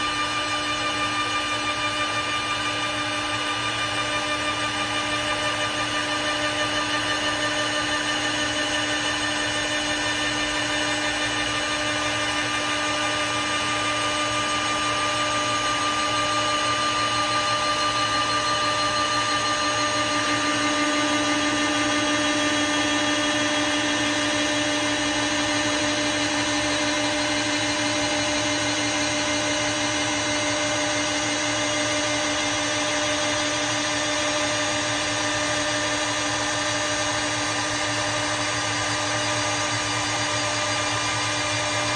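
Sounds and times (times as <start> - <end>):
router spindle whine: 0.0 - 41.9
wood being cut: 0.0 - 41.9.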